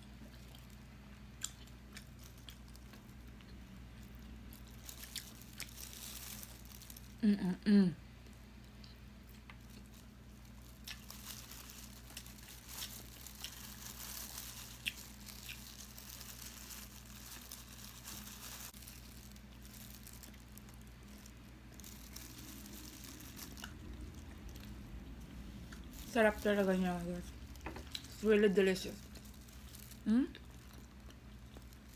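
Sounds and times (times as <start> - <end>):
person chewing food: 0.0 - 7.1, 8.2 - 25.9, 29.1 - 31.9
low electrical hum: 0.0 - 31.9
small clicks and crunches: 1.4 - 7.2, 8.6 - 24.8, 25.7 - 31.9.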